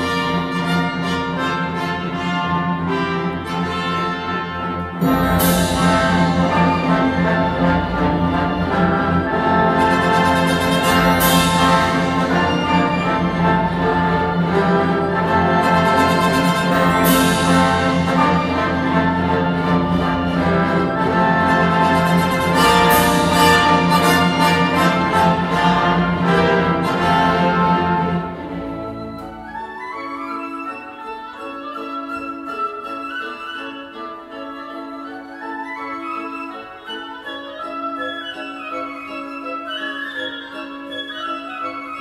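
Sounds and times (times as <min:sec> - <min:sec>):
orchestral music from speakers: 0:00.0 - 0:42.0.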